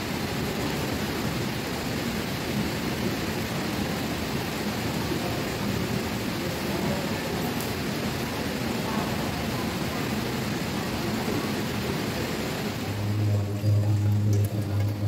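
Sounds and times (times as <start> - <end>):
rain on a metal roof: 0.0 - 15.0.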